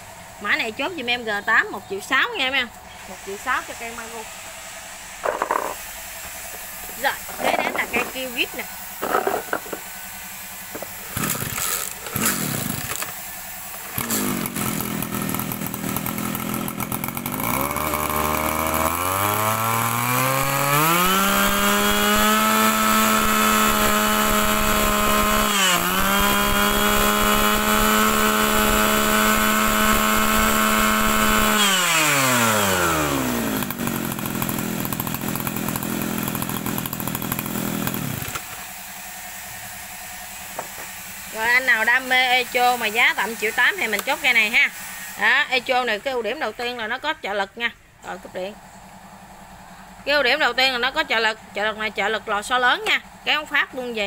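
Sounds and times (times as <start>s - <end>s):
brush cutter engine revving: 0.2s - 47.0s.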